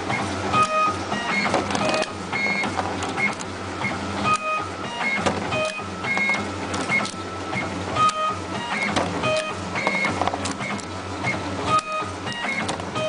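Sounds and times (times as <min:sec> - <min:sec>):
machine motors whirring: 0:00.0 - 0:13.0.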